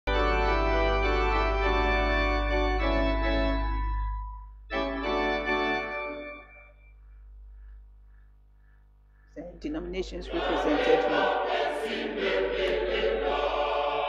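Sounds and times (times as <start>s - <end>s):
organ chords: 0.1s - 14.0s.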